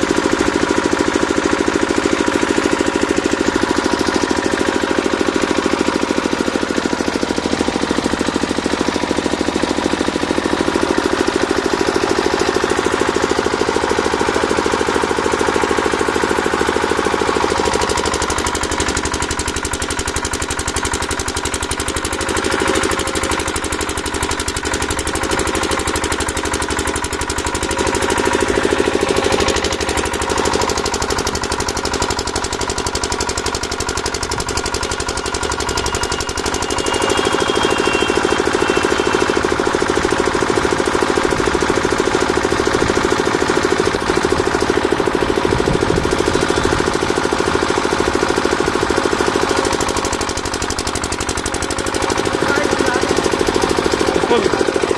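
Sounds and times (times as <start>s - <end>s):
machine pulsing: 7.2s - 54.9s.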